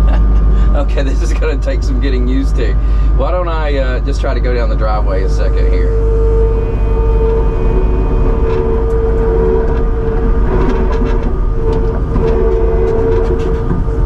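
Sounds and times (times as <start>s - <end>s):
constant whine: 0.0s - 14.0s
diesel engine rumble: 0.0s - 14.0s.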